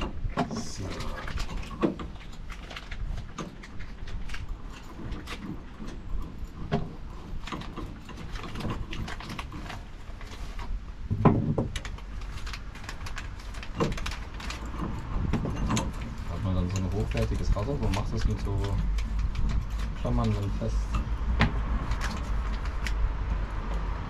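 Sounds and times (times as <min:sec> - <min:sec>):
clicks and knocks of parts handled: 0:00.0 - 0:23.9.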